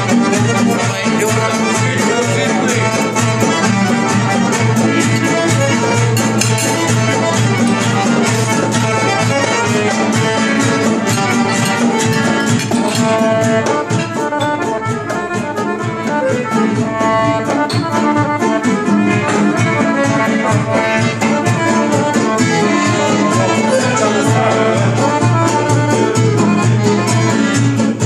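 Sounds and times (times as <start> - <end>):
accordion: 0.0 - 28.0
hand drum beat: 0.0 - 28.0
strummed acoustic guitar: 0.0 - 28.0.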